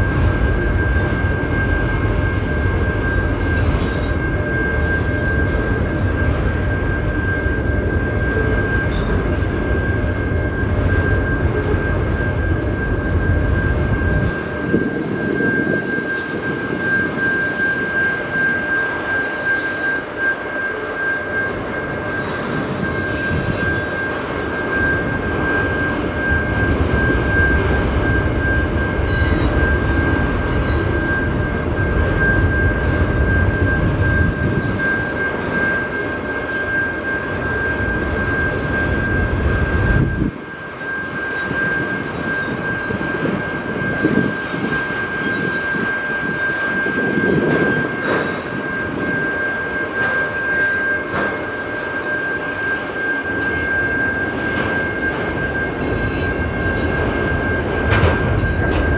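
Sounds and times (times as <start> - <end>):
freight train rumbling past: 0.0 - 58.9
steady high whine: 0.0 - 58.9.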